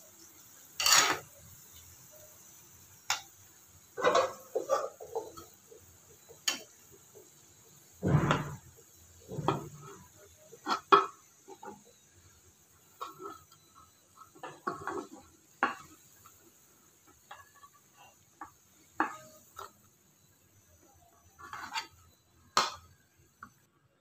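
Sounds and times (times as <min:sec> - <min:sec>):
spatula scraping a pan: 0:00.3 - 0:20.3, 0:21.2 - 0:23.5.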